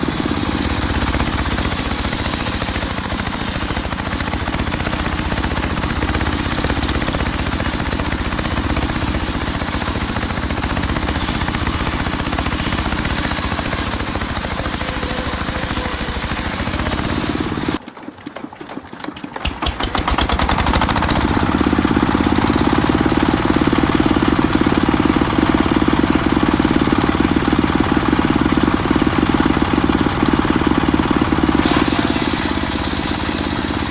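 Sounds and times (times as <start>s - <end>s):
circular sawmill ripping wood: 0.0s - 33.9s.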